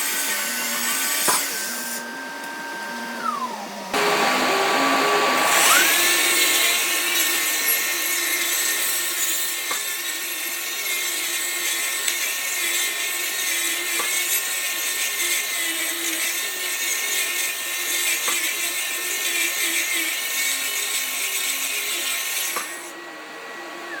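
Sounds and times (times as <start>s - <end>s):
grinder rushing hiss: 0.0s - 23.0s
grinder whining: 0.0s - 24.0s.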